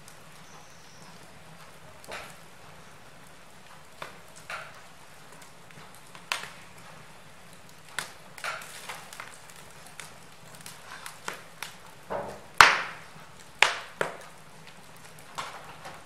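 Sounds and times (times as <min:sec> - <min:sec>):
low fire hiss: 0:00.0 - 0:16.0
wood fire crackling: 0:00.0 - 0:16.0.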